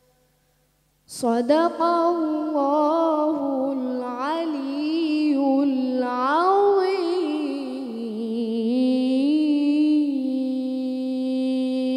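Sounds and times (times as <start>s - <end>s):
person singing wordless notes: 1.1s - 11.9s.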